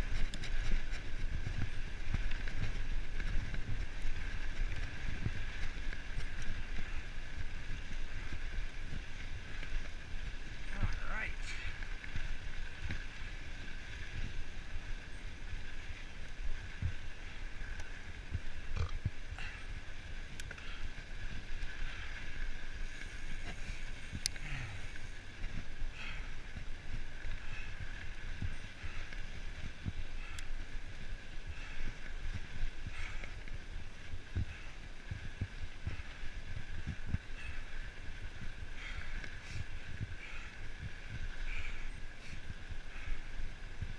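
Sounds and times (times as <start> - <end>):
tyre and wind noise: 0.0 - 43.9.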